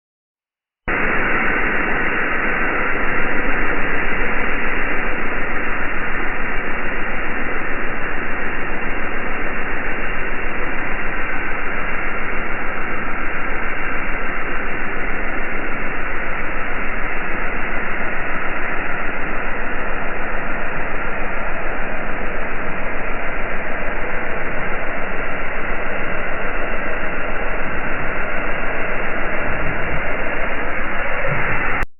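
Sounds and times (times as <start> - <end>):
steady hiss-like noise: 0.9 - 31.8.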